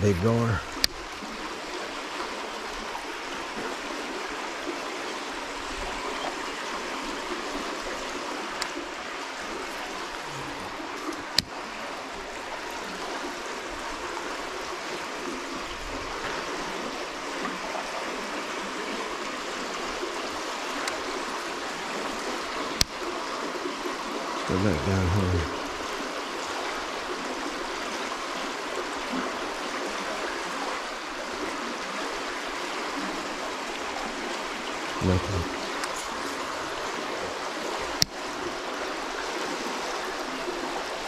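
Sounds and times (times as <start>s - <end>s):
river current rushing: 0.0s - 41.0s.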